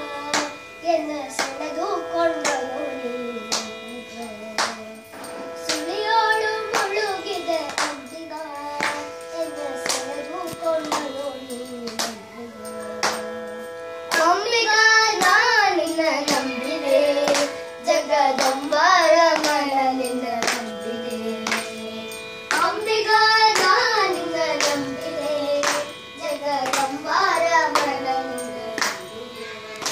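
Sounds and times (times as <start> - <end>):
devotional singing: 0.0 - 29.9
steady drone: 0.0 - 29.9
hand claps: 0.2 - 0.6, 1.3 - 3.9, 4.5 - 5.9, 6.6 - 14.5, 15.1 - 29.9.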